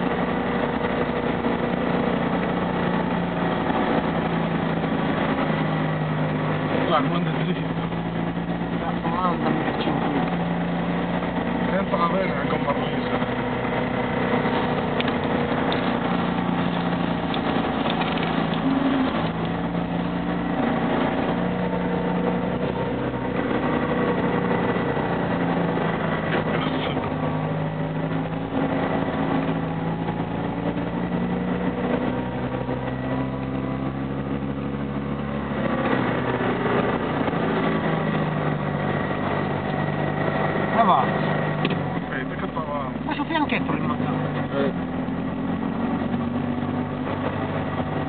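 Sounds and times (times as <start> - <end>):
car engine running: 0.0 - 48.0.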